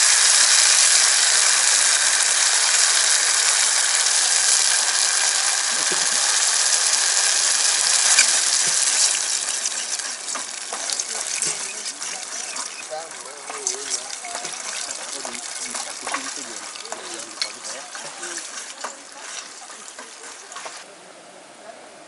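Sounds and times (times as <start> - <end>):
sauce sizzling in hot oil: 0.0 - 20.8.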